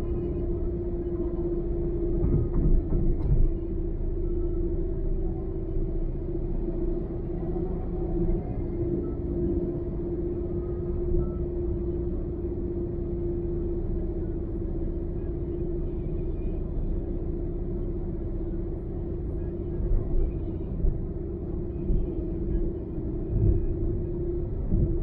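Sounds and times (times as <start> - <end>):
car engine drone: 0.0 - 25.0
road rumble: 0.0 - 25.0.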